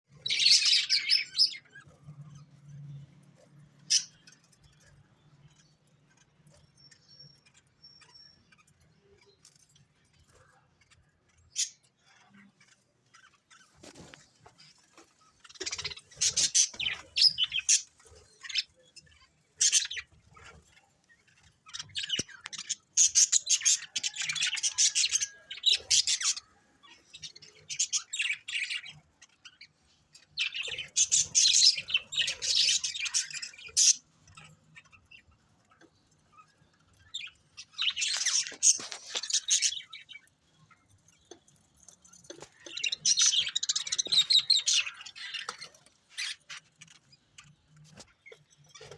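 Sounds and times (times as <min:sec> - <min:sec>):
parrots chirping and squawking: 0:00.1 - 0:02.6, 0:03.8 - 0:04.9, 0:10.8 - 0:48.9.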